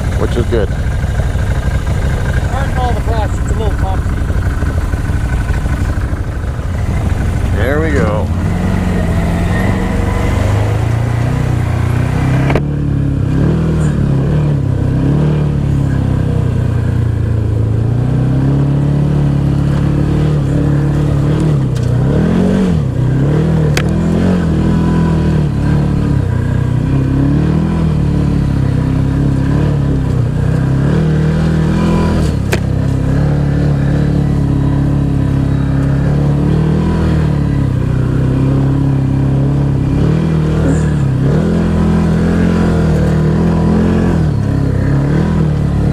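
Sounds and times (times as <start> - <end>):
off-road vehicle engine climbing: 0.0 - 45.9.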